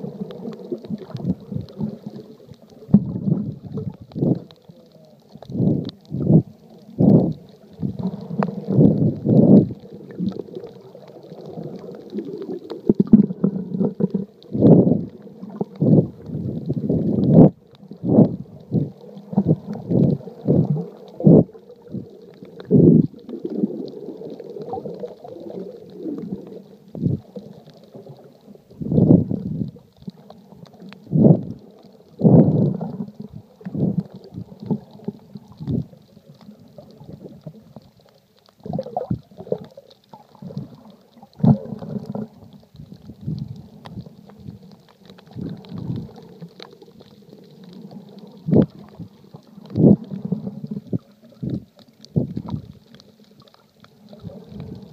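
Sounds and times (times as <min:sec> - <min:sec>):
underwater rumbling and gurgling: 0:00.0 - 0:54.9.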